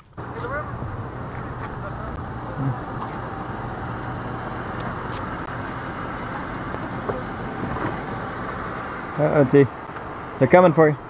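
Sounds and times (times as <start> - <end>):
car rolling slowly: 0.0 - 10.7.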